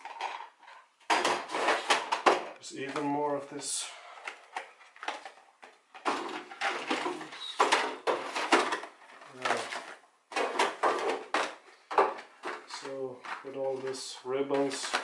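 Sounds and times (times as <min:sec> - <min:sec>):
cardboard boxes rustling in tin: 0:00.0 - 0:02.3, 0:04.0 - 0:15.0.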